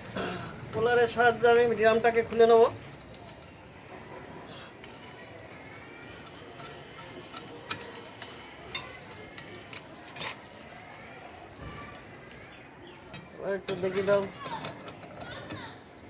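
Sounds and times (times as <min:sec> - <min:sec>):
metal clicks and clinks: 0:00.0 - 0:11.2, 0:13.1 - 0:16.0.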